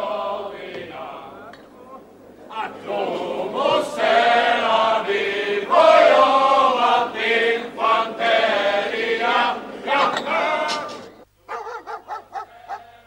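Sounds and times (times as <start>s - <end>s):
men singing in chorus: 0.0s - 11.2s.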